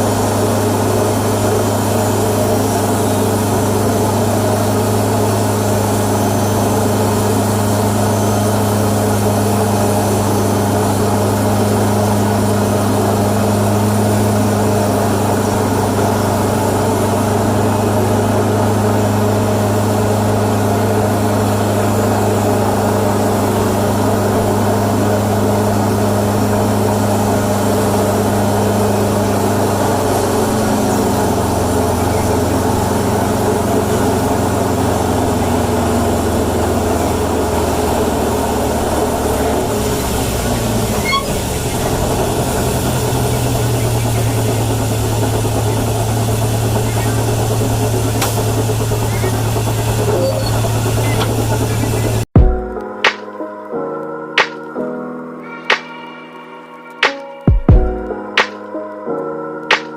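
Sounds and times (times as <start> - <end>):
tow tractor engine running: 0.0 - 52.6.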